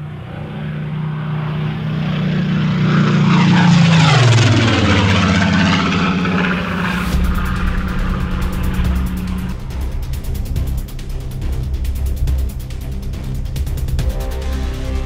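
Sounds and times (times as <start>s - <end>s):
propeller plane flying past: 0.0s - 15.0s.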